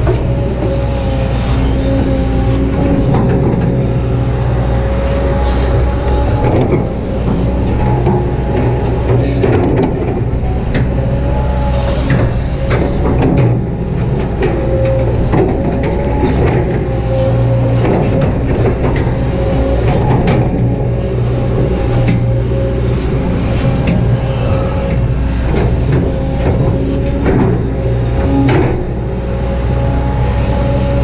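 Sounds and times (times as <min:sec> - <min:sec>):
excavator diesel engine running: 0:00.0 - 0:31.0
steady whine: 0:00.0 - 0:31.0.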